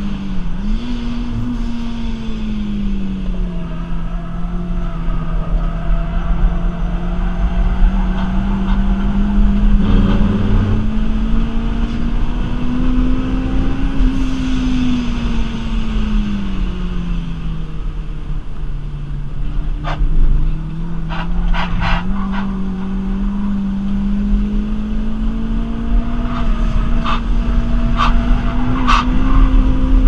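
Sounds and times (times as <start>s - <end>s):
car engine running hard: 0.0s - 30.0s.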